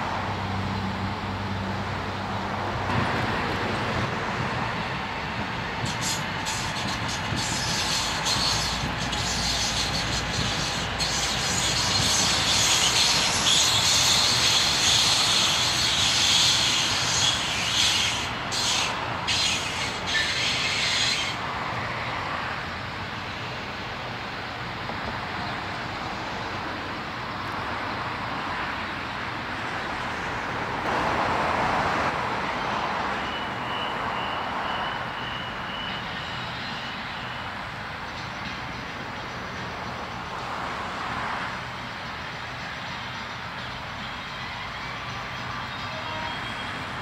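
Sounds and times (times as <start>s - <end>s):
passenger train passing: 0.0s - 47.0s.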